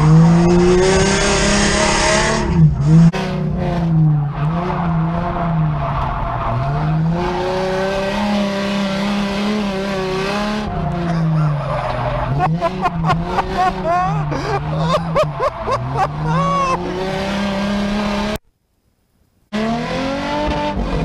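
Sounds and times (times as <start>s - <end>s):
car engine revving: 0.0s - 18.4s, 19.5s - 21.0s.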